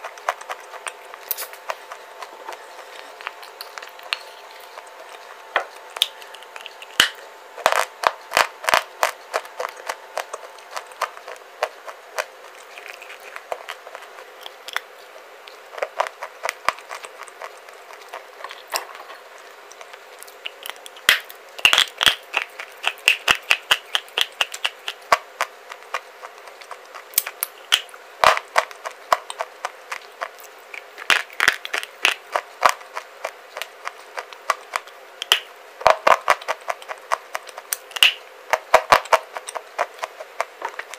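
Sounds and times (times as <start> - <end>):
crumbly chewing clicks: 0.0 - 40.9.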